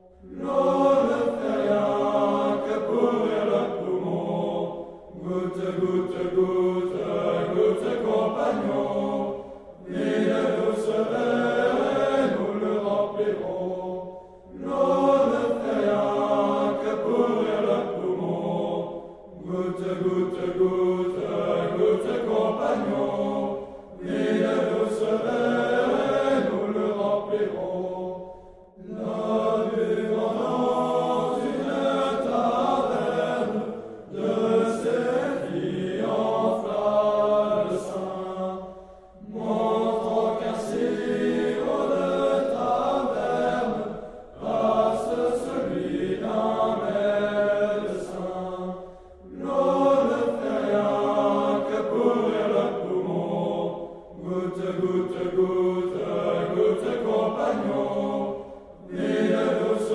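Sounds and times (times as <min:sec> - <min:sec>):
group singing a drinking song: 0:00.2 - 0:59.9.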